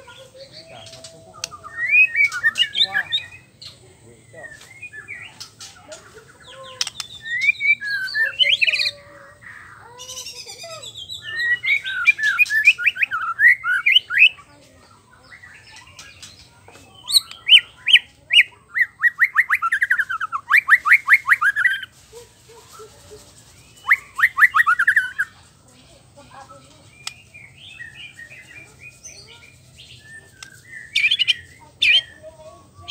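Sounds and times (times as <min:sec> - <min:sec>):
bird singing whistles and trills: 0:00.0 - 0:05.6, 0:06.3 - 0:09.0, 0:09.6 - 0:14.4, 0:17.0 - 0:21.9, 0:23.1 - 0:25.4, 0:26.8 - 0:32.9.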